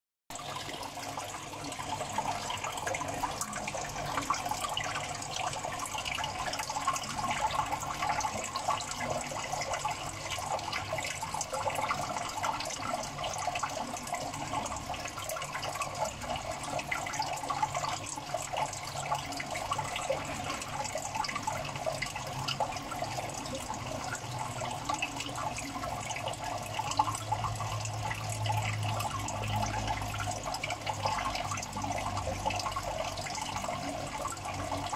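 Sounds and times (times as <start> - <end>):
water trickling into a tank: 0.3 - 34.9.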